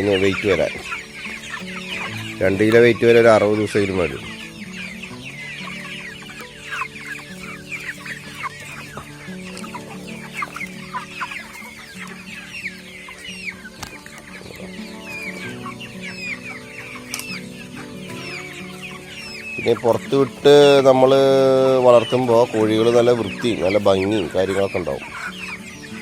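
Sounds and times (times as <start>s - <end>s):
chicks peeping and clucking: 0.0s - 26.0s.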